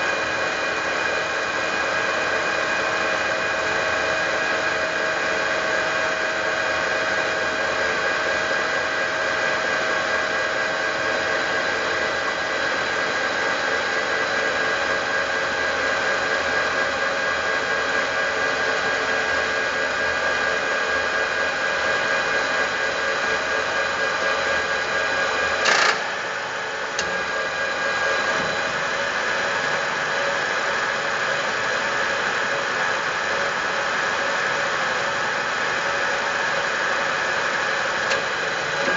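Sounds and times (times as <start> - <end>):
milling machine whining: 0.0 - 38.9.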